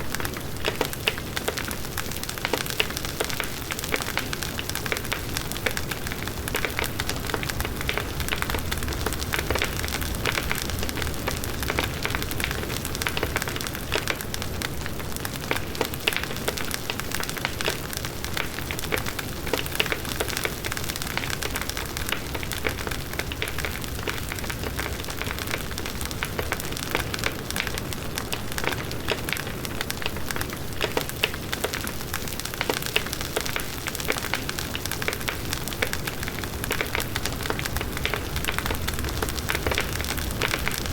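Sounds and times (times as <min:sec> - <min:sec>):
burning wood crackling and popping: 0:00.0 - 0:40.9.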